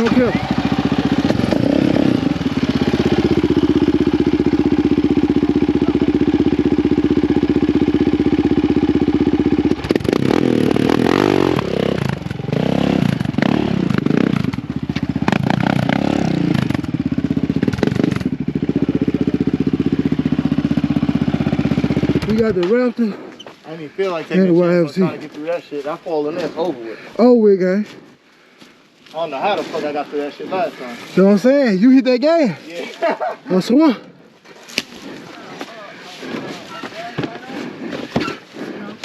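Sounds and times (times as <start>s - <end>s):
atv engine idling and revving: 0.0s - 28.2s, 29.2s - 39.0s.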